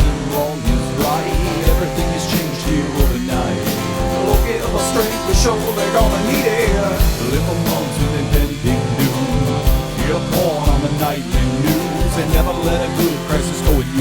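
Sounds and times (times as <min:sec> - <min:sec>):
rock song with guitar: 0:00.0 - 0:14.0
steady drum beat: 0:00.0 - 0:14.0.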